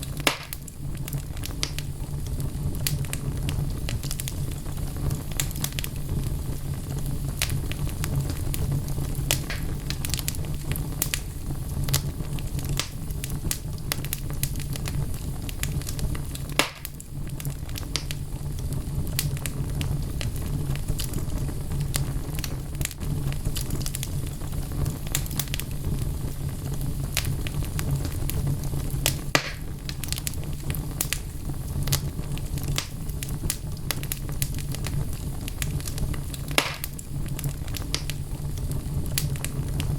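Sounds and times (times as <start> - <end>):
logs crackling in fireplace: 0.0 - 39.9
low rumble of flame: 0.0 - 39.9.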